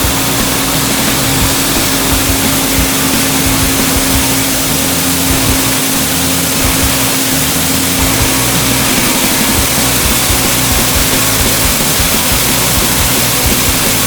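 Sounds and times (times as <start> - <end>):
sawmill engine humming: 0.0 - 14.0.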